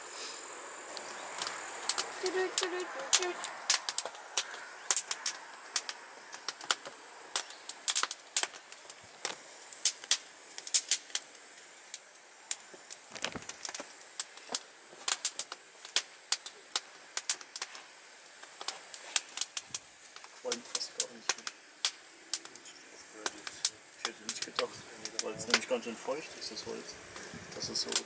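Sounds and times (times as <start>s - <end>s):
campfire crackling and popping: 0.4s - 28.0s.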